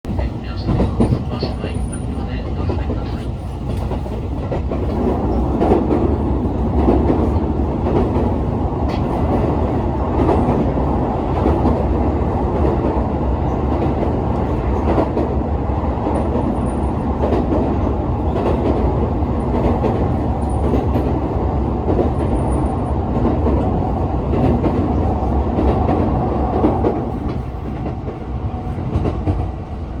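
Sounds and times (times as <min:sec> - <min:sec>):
train rumbling over bridge: 0:00.1 - 0:30.0.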